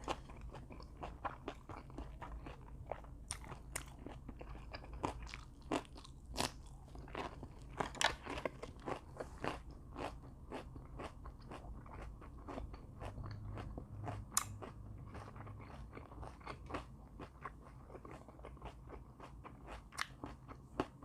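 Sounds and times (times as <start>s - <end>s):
chewing crunchy food: 0.0s - 21.0s.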